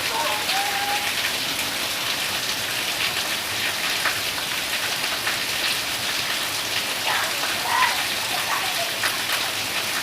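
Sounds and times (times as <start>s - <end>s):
rain spattering on surfaces: 0.0s - 10.0s.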